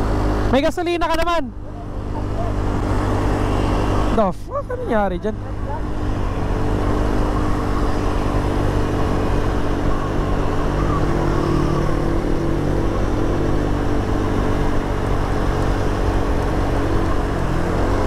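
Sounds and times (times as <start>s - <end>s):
motorcycle engine running: 0.0s - 18.0s
road noise: 0.0s - 18.0s.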